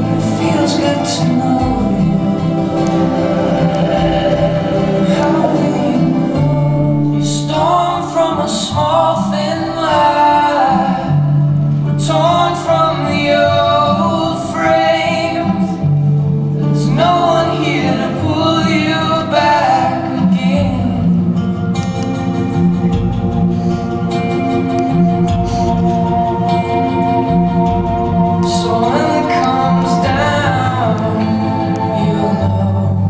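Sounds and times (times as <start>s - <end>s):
instrumental backing with low notes: 0.0s - 33.0s
person singing: 0.0s - 33.0s.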